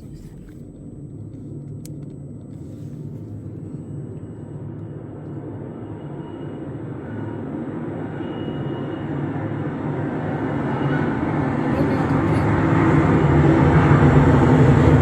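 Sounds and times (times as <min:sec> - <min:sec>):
train rumbling in tunnel: 0:00.0 - 0:15.0.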